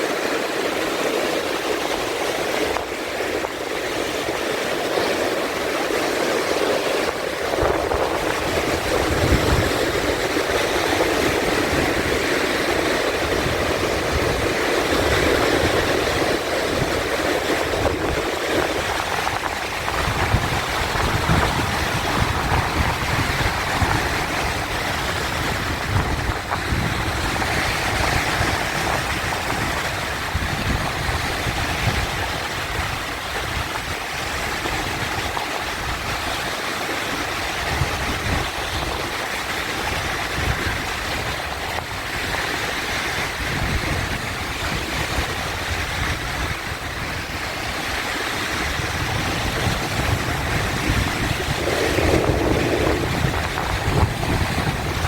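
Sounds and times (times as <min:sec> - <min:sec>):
sea waves washing: 0:00.0 - 0:55.0.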